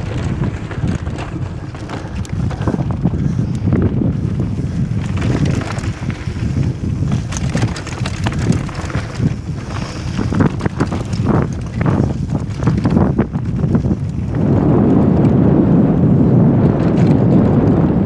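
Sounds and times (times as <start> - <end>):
tyres rumbling on gravel: 0.0 - 17.9
bike knocking and rattling: 0.0 - 18.0
wind buffeting microphone: 0.0 - 18.0.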